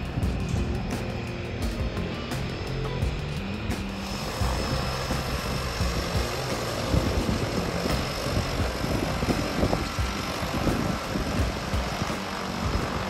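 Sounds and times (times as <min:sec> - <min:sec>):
floatplane engine and propeller: 0:00.0 - 0:13.0.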